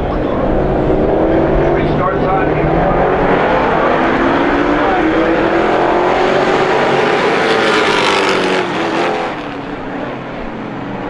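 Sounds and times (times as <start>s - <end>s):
race truck engines running hard: 0.0s - 11.0s.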